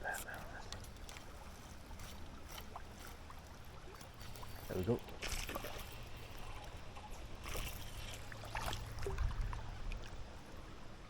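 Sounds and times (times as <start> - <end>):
river water rumbling: 0.0 - 11.0
water splashes and trickles: 0.0 - 11.0.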